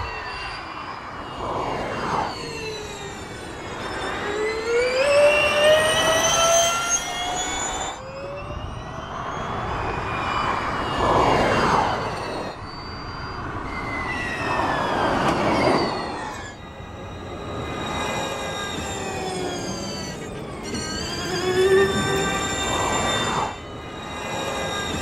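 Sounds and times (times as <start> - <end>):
electric race car whining: 0.0 - 25.0.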